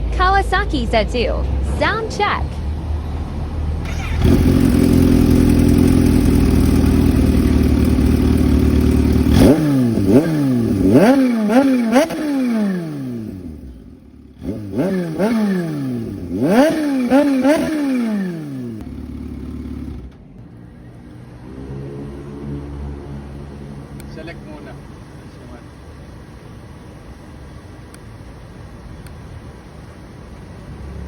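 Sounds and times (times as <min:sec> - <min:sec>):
motorcycle engine revving: 0:01.4 - 0:26.4.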